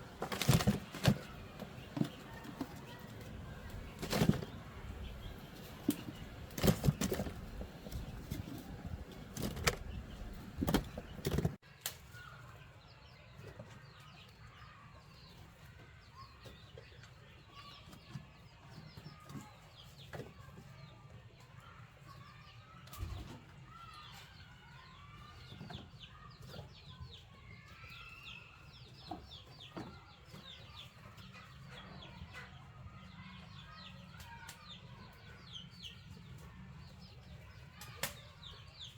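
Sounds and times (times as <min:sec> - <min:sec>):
chickens clucking and chirping: 0:00.0 - 0:38.9.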